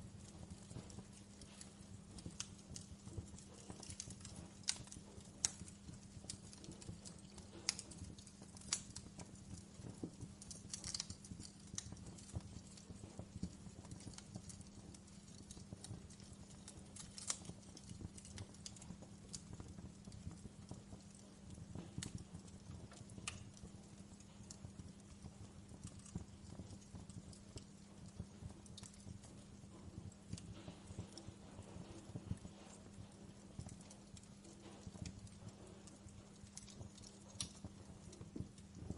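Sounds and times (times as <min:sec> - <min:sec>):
low steady hum: 0:00.0 - 0:38.9
wood fire crackling: 0:00.0 - 0:38.9.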